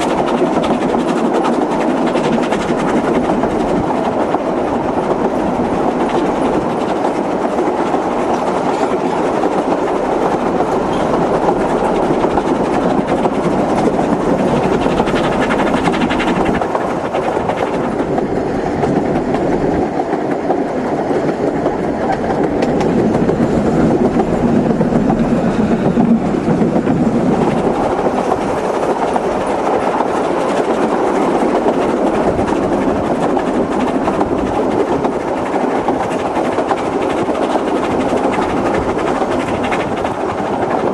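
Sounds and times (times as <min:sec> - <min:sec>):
train wheel-on-rail noise: 0:00.0 - 0:40.9.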